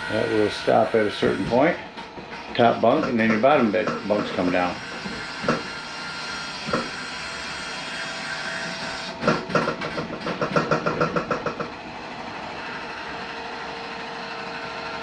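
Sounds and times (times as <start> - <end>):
electric bed lift motor: 0.0 - 15.0.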